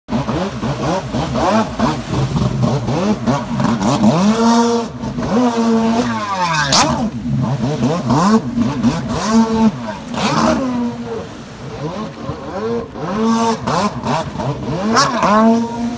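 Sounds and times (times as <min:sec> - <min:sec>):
jet ski engine revving: 0:00.1 - 0:15.9.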